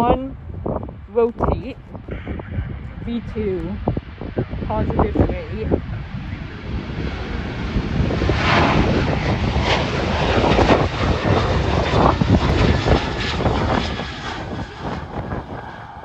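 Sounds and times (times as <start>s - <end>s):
jet engines at takeoff power: 0.4s - 16.0s.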